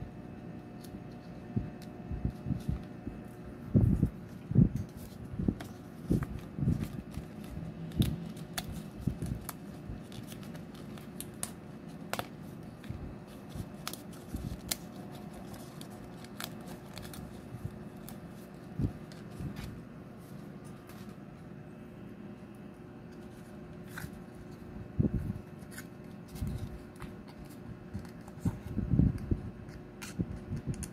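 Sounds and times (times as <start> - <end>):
paper handling: 0.6 - 21.6, 23.0 - 30.9.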